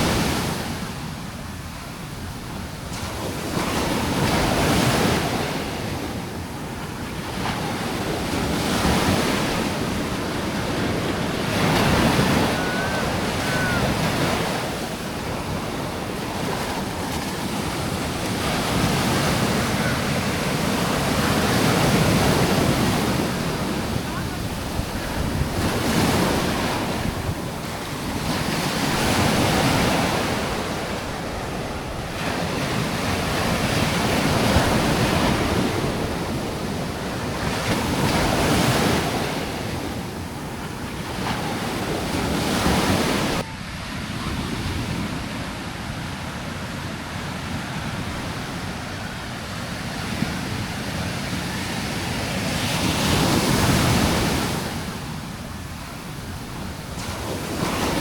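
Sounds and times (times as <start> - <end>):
surf breaking on a beach: 0.0 - 58.0
wind on the microphone: 0.0 - 58.0.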